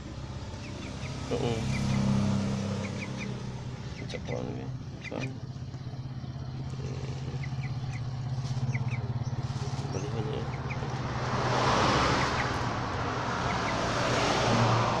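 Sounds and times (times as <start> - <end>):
engine throbbing: 0.0 - 15.0.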